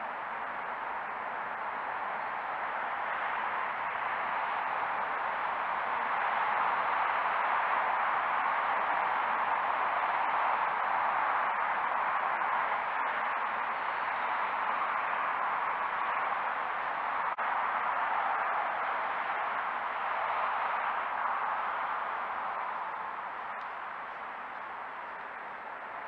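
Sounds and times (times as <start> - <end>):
faint high-pitched whine: 0.0 - 26.0
microphone hiss: 0.0 - 26.0.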